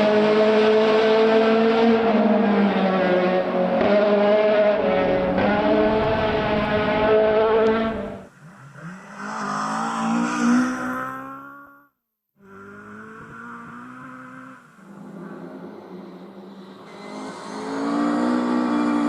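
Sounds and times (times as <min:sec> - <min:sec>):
rally car engines revving: 0:00.0 - 0:19.0.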